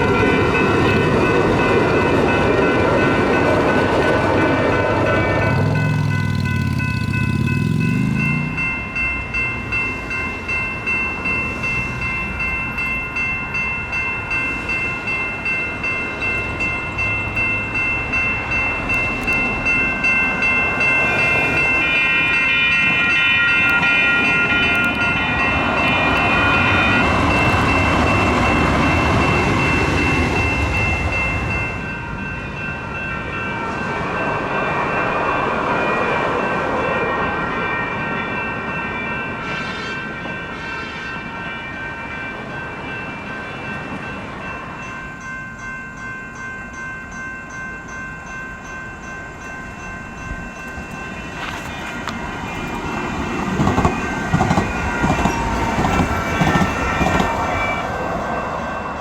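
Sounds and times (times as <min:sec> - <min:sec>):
crossing warning bell dinging: 0:00.0 - 0:59.0
light rail train passing: 0:00.0 - 0:59.0.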